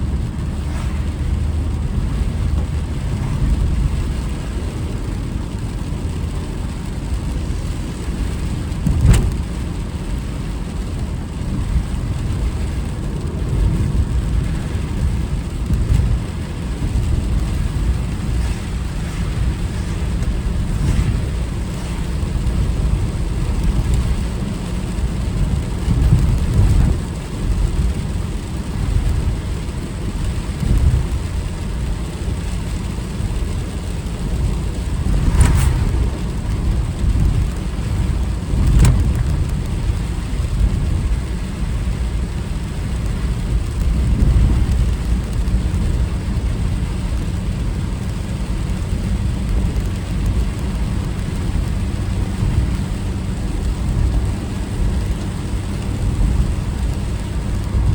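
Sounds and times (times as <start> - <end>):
road and rain noise: 0.0 - 57.9.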